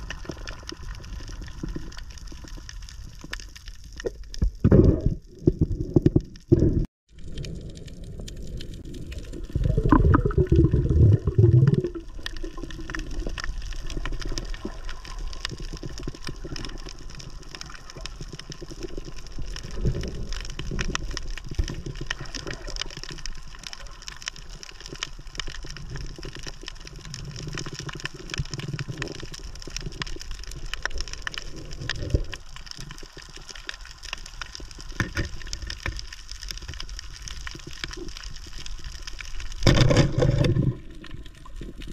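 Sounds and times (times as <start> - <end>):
low rumble of moving water: 0.0 - 41.9.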